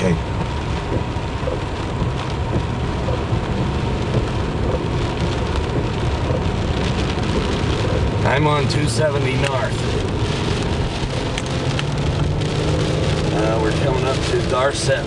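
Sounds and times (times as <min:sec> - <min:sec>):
rain hitting car windshield: 0:00.0 - 0:15.0
tyre and road rumble: 0:00.0 - 0:15.0.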